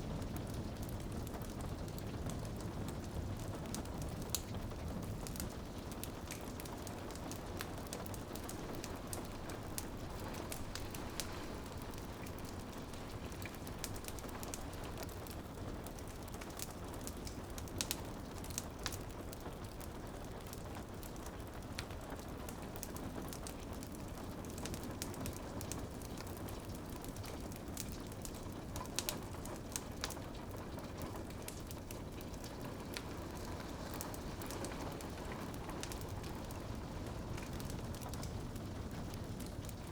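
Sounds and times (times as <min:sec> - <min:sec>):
rain pattering on a window: 0:00.0 - 0:39.9
wood fire crackling and popping: 0:00.0 - 0:39.9.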